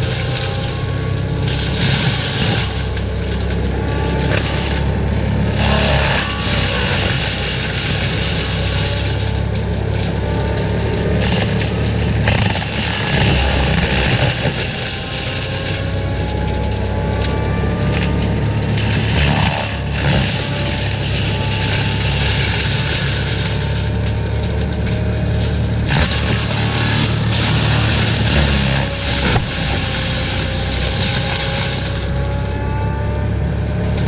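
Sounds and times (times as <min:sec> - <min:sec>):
forestry mulcher engine rumble: 0:00.0 - 0:34.0
mulcher grinding: 0:00.0 - 0:34.0.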